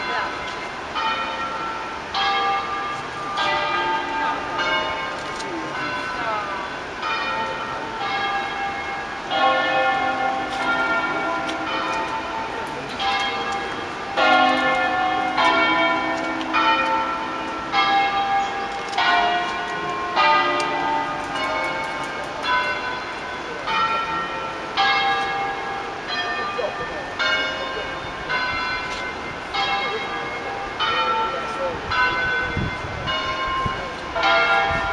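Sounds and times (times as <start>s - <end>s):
church bells ringing melodically: 0.0s - 34.9s.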